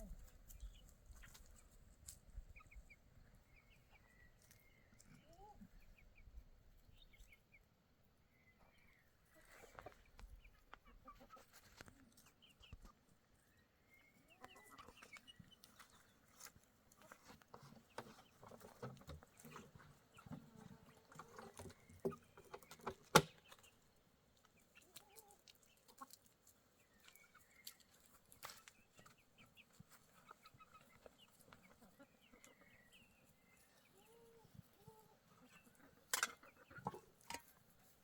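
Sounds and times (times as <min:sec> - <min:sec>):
chickens clucking: 0:00.0 - 0:07.8, 0:08.4 - 0:38.0.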